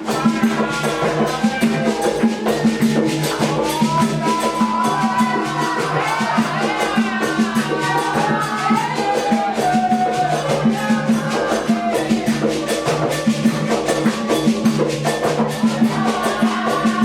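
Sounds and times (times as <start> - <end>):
person singing: 0.0 - 14.4, 15.5 - 17.0
hand drums: 0.0 - 17.0
struck bell or rattle: 0.0 - 17.0.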